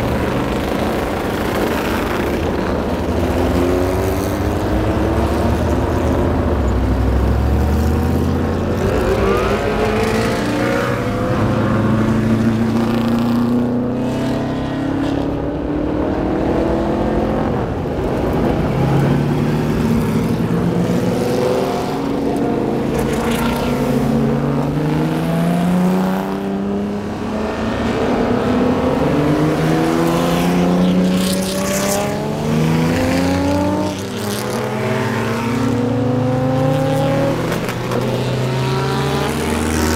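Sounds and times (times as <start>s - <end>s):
race cars accelerating past: 0.0s - 39.9s.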